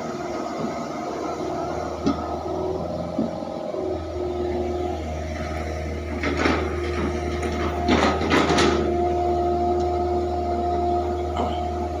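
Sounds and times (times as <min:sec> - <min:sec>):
excavator engine hum: 0:00.0 - 0:12.0
high hydraulic whine: 0:00.0 - 0:12.0.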